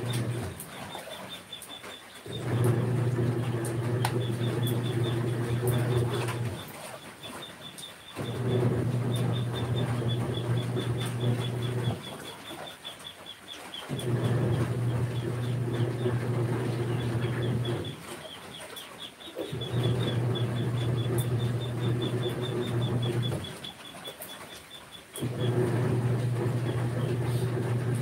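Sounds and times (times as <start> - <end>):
washing machine motor churning: 0.0 - 28.0.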